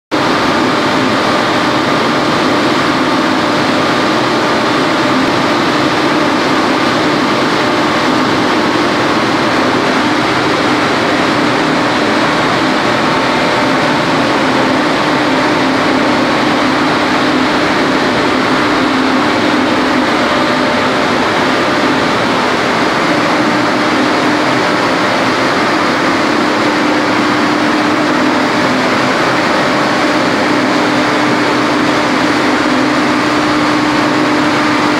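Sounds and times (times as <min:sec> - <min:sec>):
generator humming: 0:00.1 - 0:34.9
water turbine rushing: 0:00.2 - 0:34.9.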